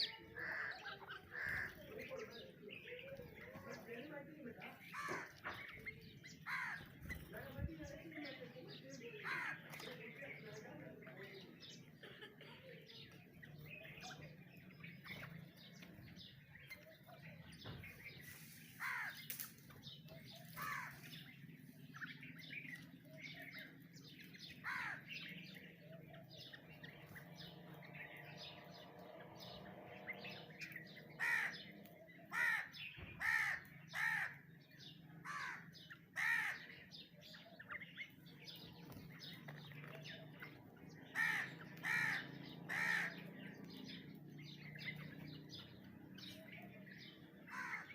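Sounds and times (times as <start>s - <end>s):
birds cawing: 0.0s - 3.9s, 4.7s - 7.5s, 8.3s - 10.4s, 11.3s - 47.9s.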